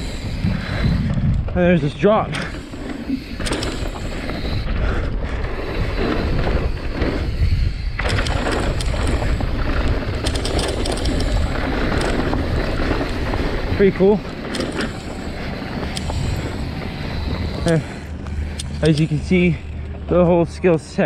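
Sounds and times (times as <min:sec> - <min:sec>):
wind rush on microphone: 0:00.0 - 0:19.5
bike clacking and rattling: 0:00.0 - 0:20.6
bike tyres rolling on dirt: 0:00.0 - 0:21.0.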